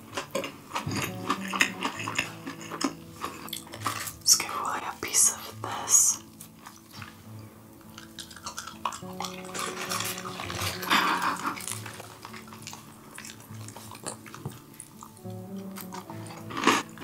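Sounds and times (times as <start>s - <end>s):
dog chewing food: 0.0s - 4.3s, 6.2s - 17.0s
faint background music: 0.0s - 17.0s.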